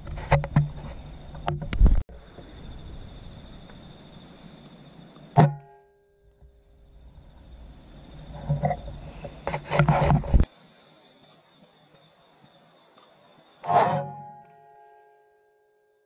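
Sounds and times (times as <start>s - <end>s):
insect drone: 0.0s - 15.2s.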